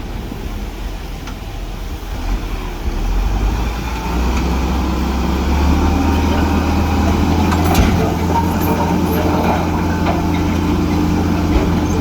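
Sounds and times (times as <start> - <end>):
heavy diesel engine rumbling: 0.0 - 12.0.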